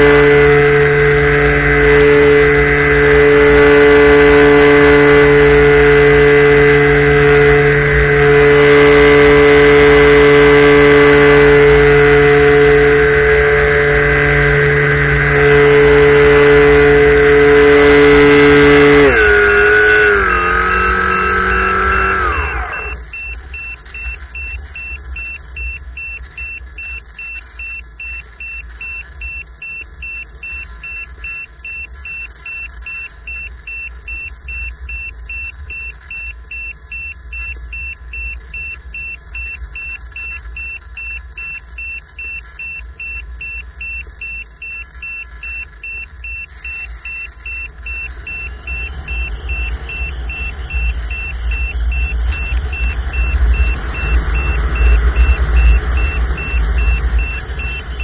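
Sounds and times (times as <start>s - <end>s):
pulsing high whine: 0.0s - 58.0s.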